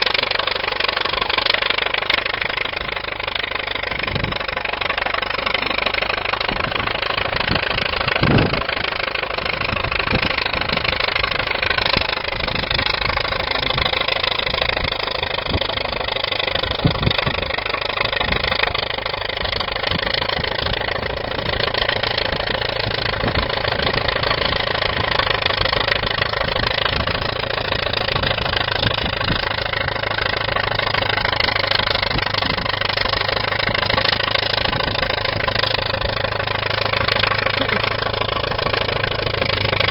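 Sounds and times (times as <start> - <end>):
bulldozer engine running: 0.0 - 39.9
engine knock: 0.0 - 39.9.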